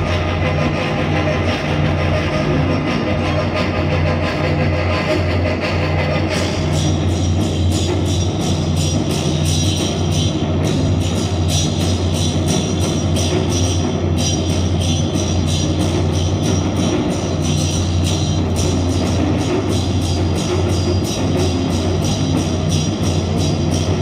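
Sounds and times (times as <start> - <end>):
loud music with fast drum beat: 0.0 - 24.0.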